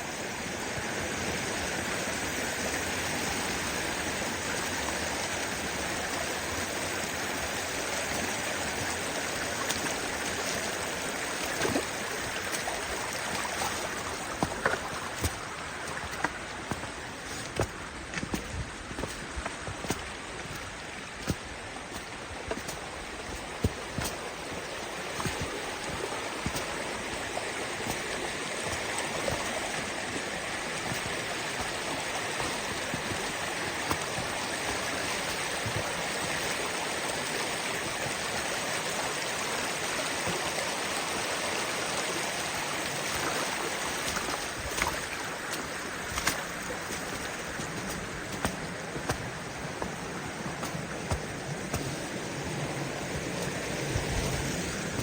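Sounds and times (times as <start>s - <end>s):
creek rushing: 0.0s - 55.0s.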